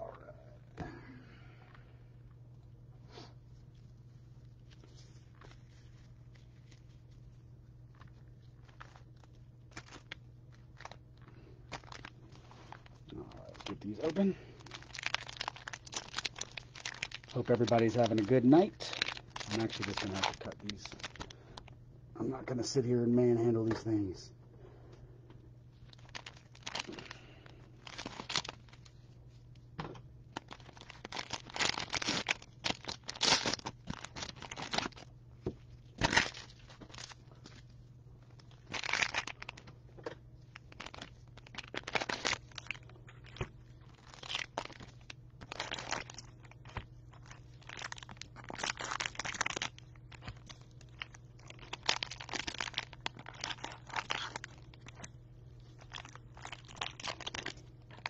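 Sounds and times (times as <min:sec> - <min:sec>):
faint low hum: 0:00.0 - 0:58.0
plastic wrappers crinkling and tearing: 0:03.8 - 0:21.8, 0:25.7 - 0:29.6, 0:30.3 - 0:58.0.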